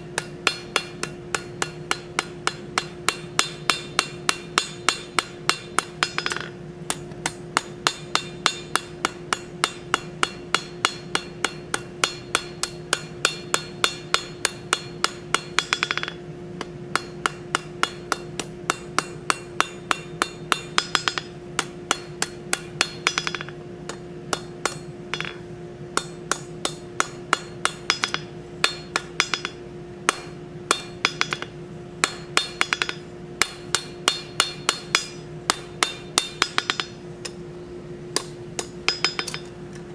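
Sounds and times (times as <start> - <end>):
hammer ringing on an anvil: 0.0 - 37.4, 38.2 - 39.5.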